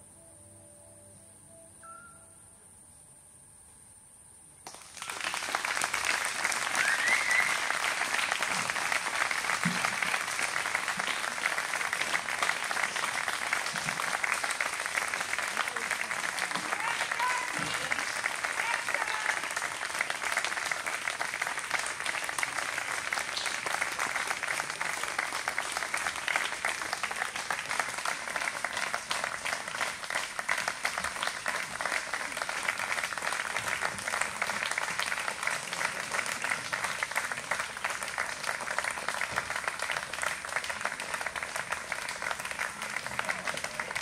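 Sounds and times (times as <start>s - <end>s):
audience applauding: 4.6s - 44.0s.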